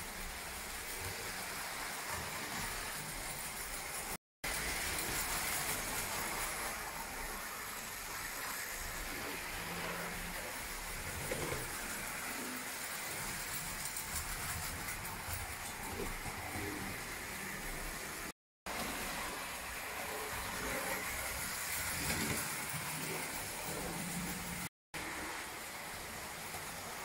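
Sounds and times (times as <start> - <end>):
toy trains rattling on tin track: 0.0 - 18.2, 19.2 - 27.0.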